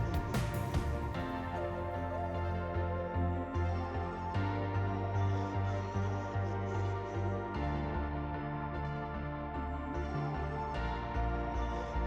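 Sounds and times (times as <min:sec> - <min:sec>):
ambient music with pulsing bass: 0:00.0 - 0:12.0.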